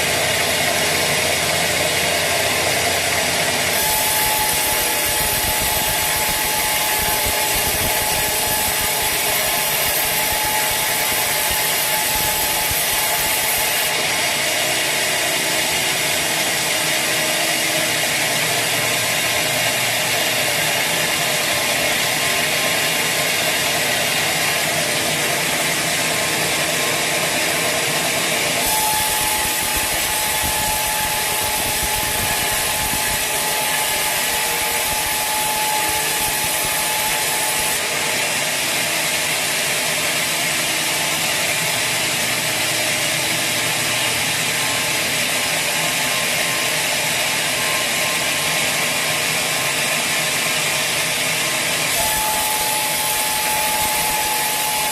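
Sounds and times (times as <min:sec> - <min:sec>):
saw cutting through log: 0:00.0 - 0:54.9.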